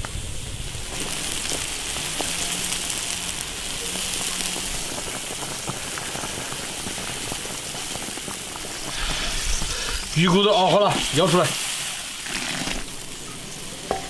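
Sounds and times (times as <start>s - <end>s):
broth boiling with bubbling pops: 0.0s - 14.0s
wood fire rumbling: 0.0s - 14.0s.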